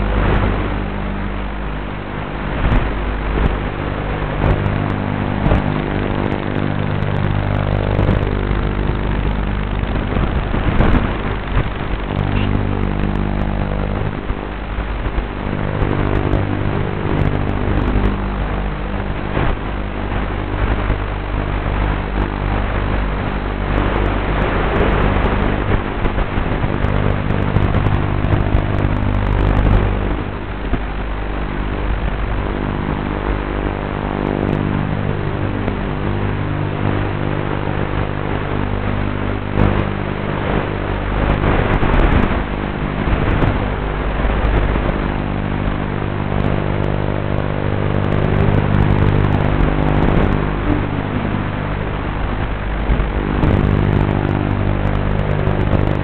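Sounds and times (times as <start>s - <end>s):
quadcopter motors and propellers: 0.0s - 56.0s.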